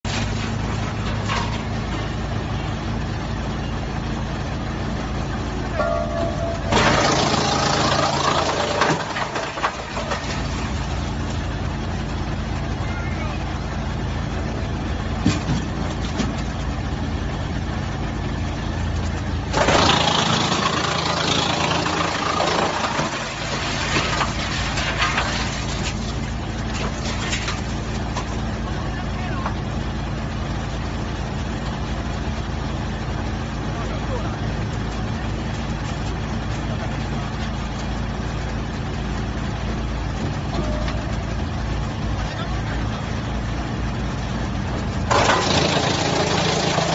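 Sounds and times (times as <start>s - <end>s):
wood chipper grinding wood: 0.0s - 46.9s
wood chipper running: 0.0s - 46.9s.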